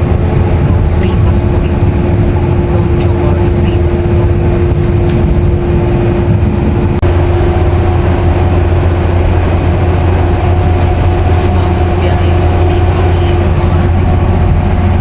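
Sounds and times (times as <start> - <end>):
vehicle engine drone: 0.0 - 15.0.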